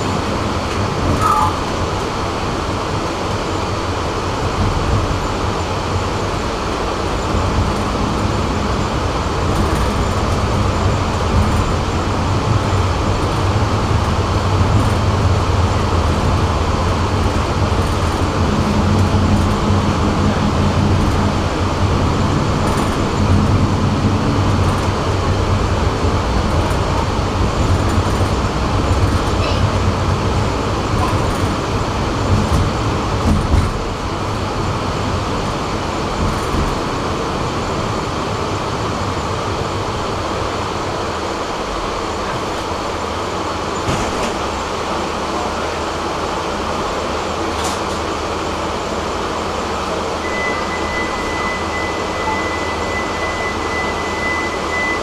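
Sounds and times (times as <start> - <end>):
tram wheels rolling on rails: 0.0 - 55.0.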